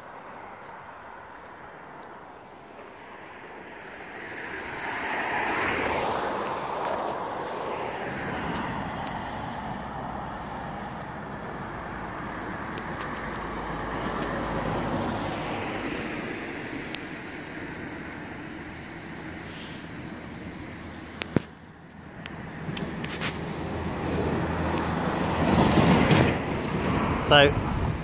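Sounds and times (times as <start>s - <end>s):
cars passing on a road: 0.0s - 28.0s.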